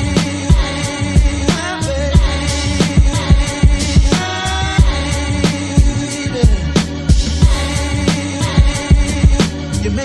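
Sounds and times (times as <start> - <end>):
hip hop music: 0.0 - 10.0.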